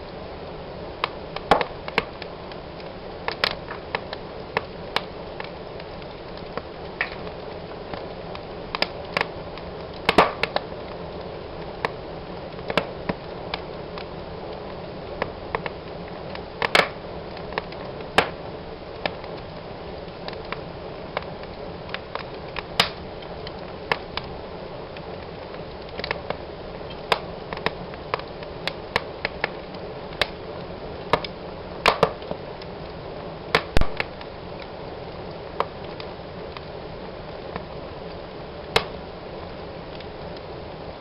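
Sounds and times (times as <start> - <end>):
fire crackling in fireplace: 0.0 - 41.0.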